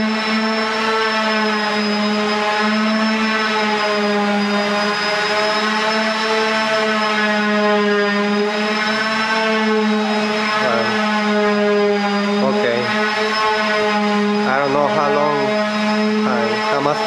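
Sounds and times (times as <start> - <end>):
power tool motor whining: 0.0 - 17.0.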